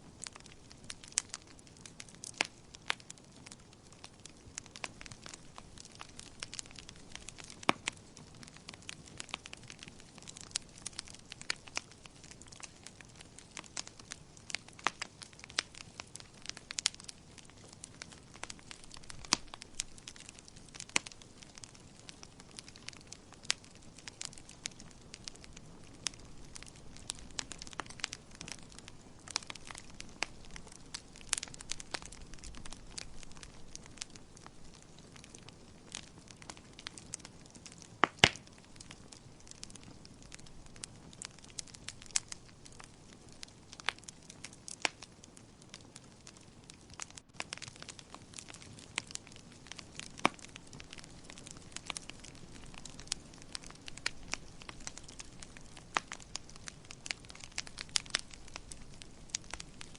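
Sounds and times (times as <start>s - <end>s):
fire soft low hiss: 0.0s - 59.9s
wood fire pops and snaps: 0.1s - 59.9s.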